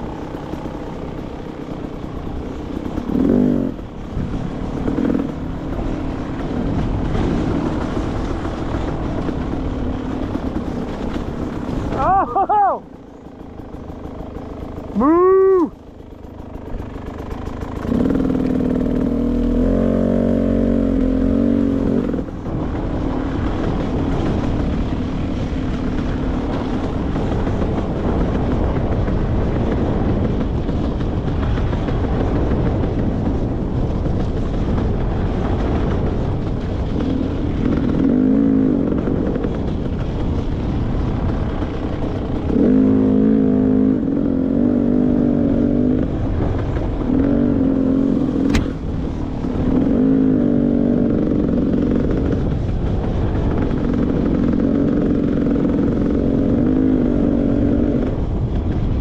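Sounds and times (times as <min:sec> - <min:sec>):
dirt bike engine revving: 0:00.0 - 0:33.5, 0:34.3 - 0:58.4.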